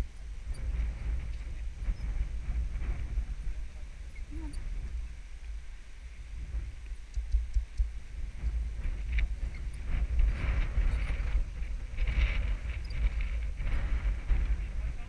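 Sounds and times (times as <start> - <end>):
horse hooves in soft sand: 0.0 - 15.0
wind buffeting microphone: 0.0 - 15.0.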